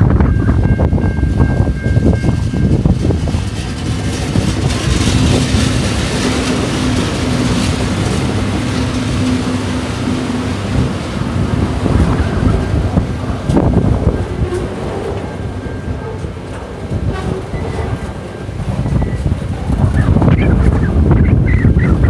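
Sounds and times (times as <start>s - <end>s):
diesel locomotive engines humming: 0.0s - 22.0s.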